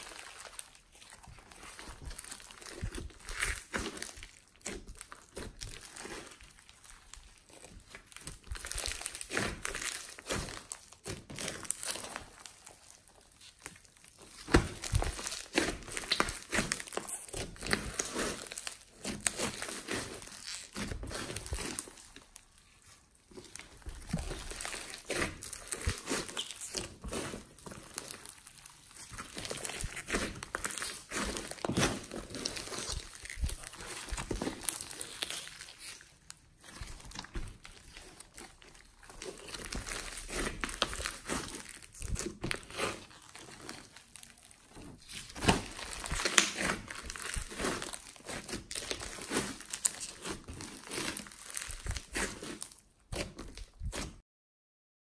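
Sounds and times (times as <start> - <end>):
slime clicking and crackling: 0.0 - 54.2.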